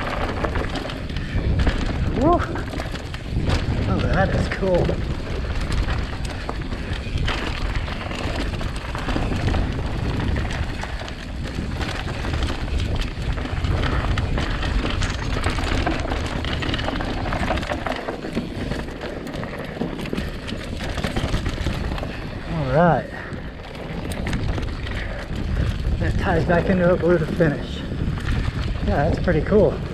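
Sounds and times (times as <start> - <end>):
bike rattling clicks and knocks: 0.0 - 29.9
bike tyres rumbling on dirt: 0.0 - 29.9.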